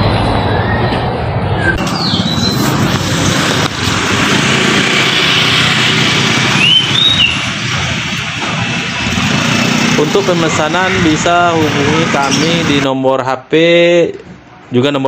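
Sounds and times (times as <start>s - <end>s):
cars and motorcycles passing: 0.0s - 12.9s.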